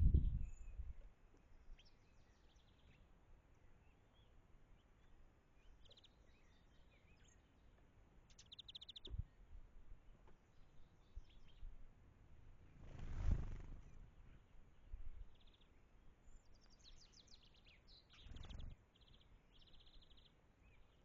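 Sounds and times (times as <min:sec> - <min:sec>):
faint birdsong with trills: 0:00.0 - 0:21.0.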